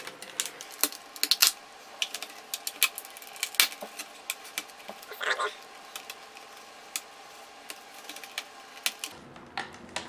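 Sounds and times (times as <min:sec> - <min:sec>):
plastic clicks and snaps: 0:00.0 - 0:09.1.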